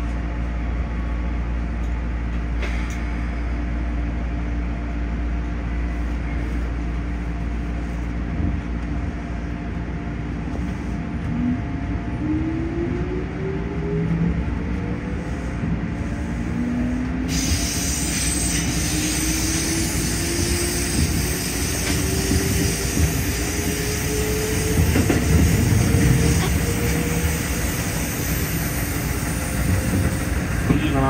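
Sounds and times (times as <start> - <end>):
train motor and gear whine rising: 0.0 - 31.0
wheels rumbling on rails: 0.0 - 31.0.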